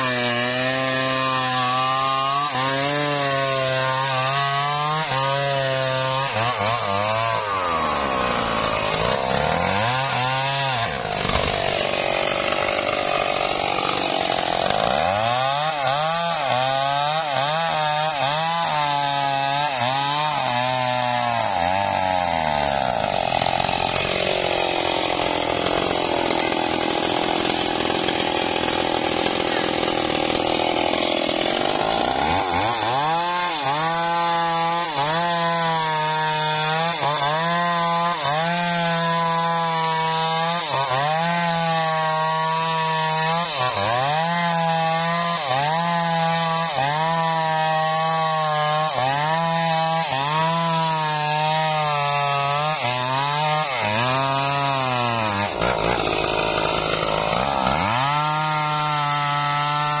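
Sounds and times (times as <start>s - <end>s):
chainsaw cutting log: 0.0s - 60.0s.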